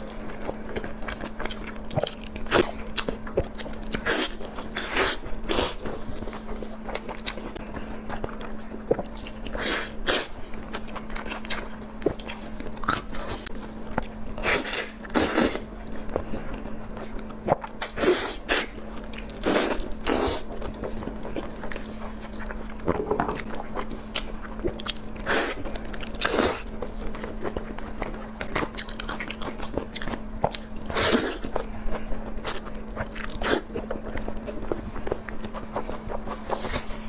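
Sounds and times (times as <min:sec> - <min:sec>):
person biting and chewing food: 0:00.0 - 0:37.0.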